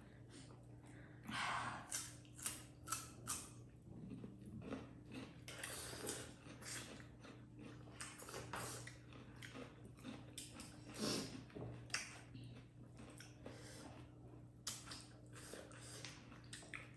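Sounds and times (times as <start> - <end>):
chewing and lip smacking: 1.9 - 16.9.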